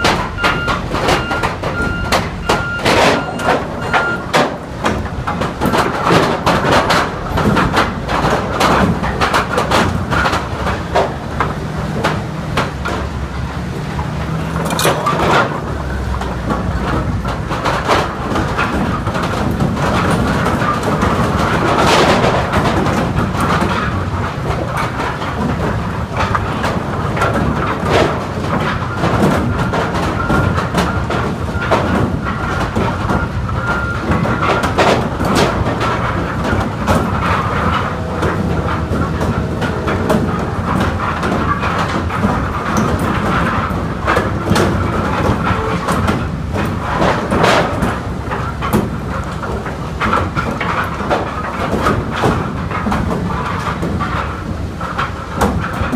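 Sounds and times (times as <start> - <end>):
wood pieces clattering on conveyor: 0.0 - 55.9.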